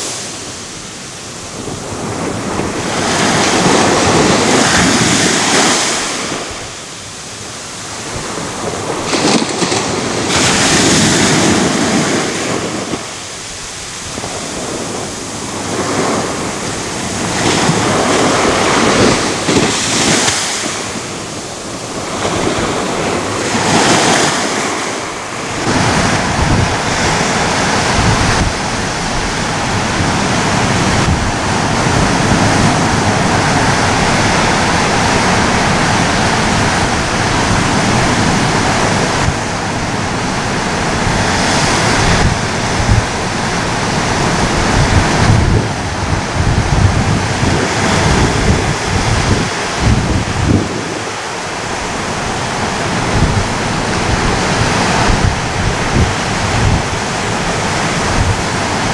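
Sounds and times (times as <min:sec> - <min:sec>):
sea waves breaking on a beach: 0:00.0 - 0:58.9.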